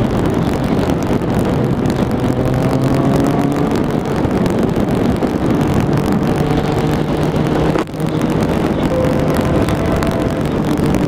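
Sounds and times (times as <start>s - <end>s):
motorcycle engine at speed: 0.0s - 11.0s
wind rush on microphone: 0.0s - 11.0s.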